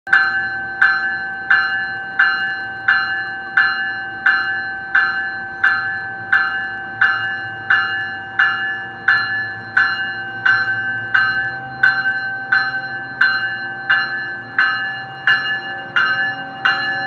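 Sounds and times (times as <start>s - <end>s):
train warning bell ringing: 0.1s - 17.0s.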